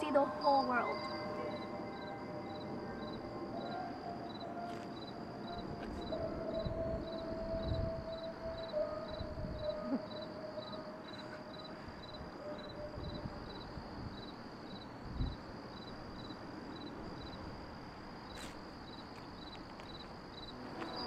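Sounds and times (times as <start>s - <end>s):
crickets chirping: 0.0s - 21.0s
high insect trill: 0.0s - 21.0s.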